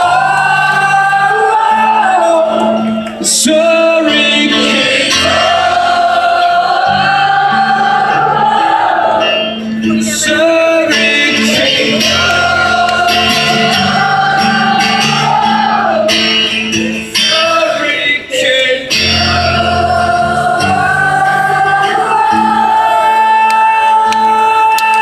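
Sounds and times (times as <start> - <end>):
rock band playing: 0.0 - 23.3
drawn-out wordless singing: 0.0 - 25.0
many voices singing together: 0.0 - 25.0.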